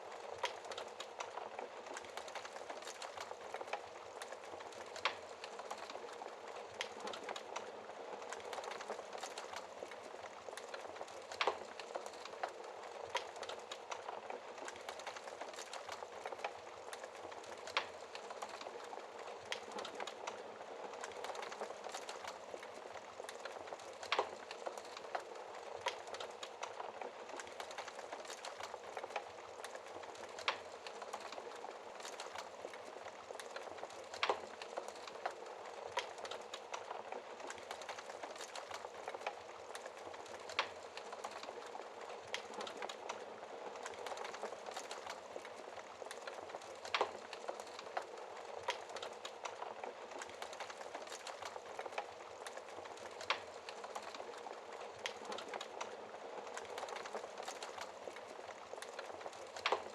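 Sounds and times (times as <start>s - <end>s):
logs burning in fireplace: 0.0s - 59.9s.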